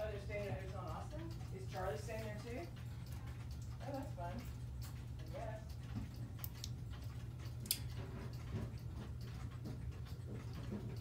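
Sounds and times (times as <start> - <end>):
clock ticking: 0.0 - 11.0
low background hum: 0.0 - 11.0.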